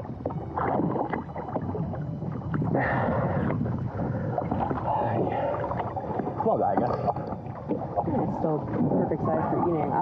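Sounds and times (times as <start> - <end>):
sea water splashing: 0.0 - 10.0.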